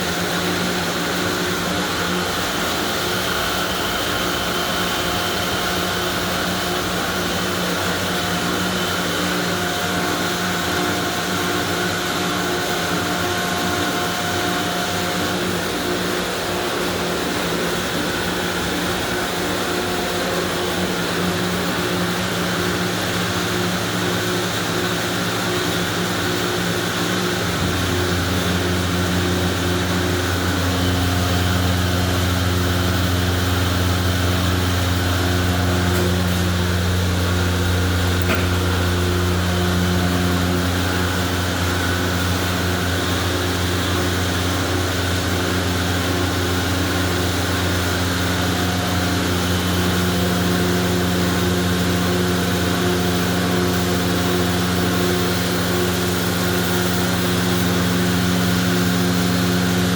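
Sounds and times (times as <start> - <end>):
deeper machine hum: 0.0 - 59.9
motor hums: 0.0 - 59.9.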